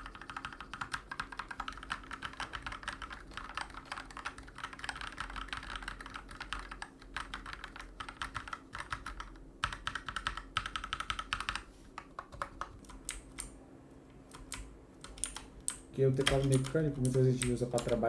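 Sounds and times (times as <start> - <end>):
mechanical keyboard typing: 0.0 - 13.5, 14.3 - 18.0.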